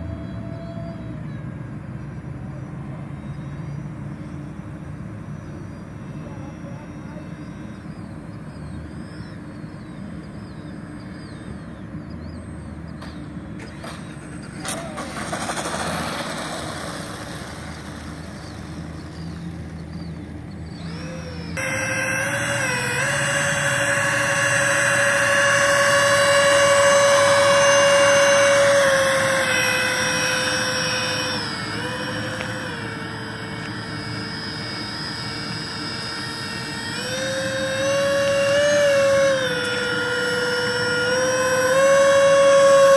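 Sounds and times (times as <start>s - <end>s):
electric model jet fans whining: 0.0s - 42.9s
outdoor noise: 0.0s - 42.9s.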